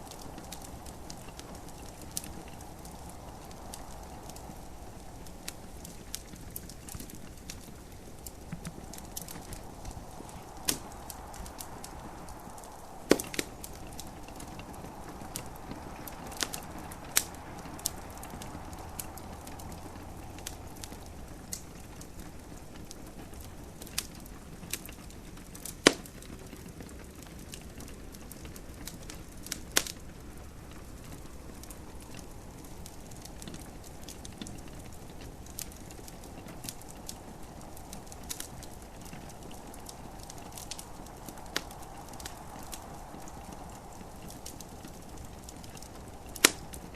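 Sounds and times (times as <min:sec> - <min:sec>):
gentle rain hiss: 0:00.0 - 0:46.9
wood fire crackling and popping: 0:00.0 - 0:46.9.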